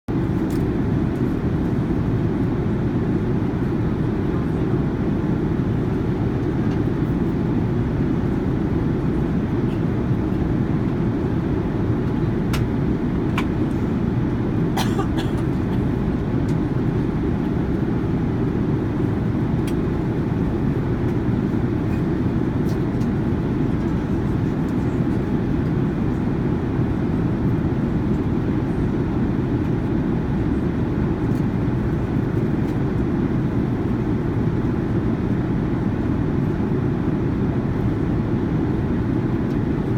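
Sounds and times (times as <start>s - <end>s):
airliner cabin rumble: 0.1s - 39.9s.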